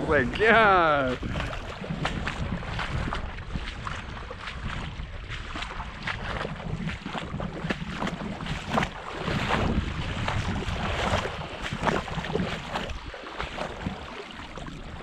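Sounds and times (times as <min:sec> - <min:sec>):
creek water running and splashing: 0:00.0 - 0:15.0
wind rumbling on microphone: 0:00.0 - 0:15.0.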